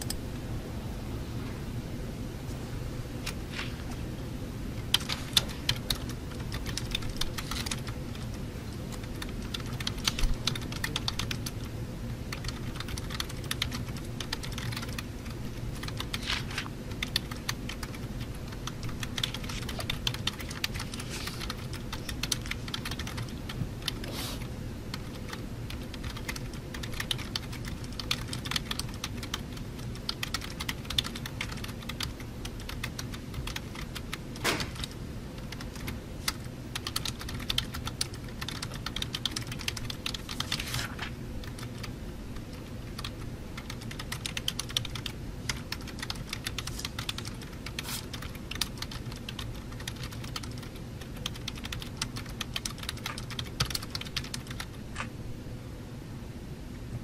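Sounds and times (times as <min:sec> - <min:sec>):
steady low hum: 0:00.0 - 0:57.0
typing on computer keyboard: 0:04.9 - 0:11.7, 0:12.3 - 0:16.3, 0:16.9 - 0:24.1, 0:24.9 - 0:40.6, 0:41.4 - 0:55.1.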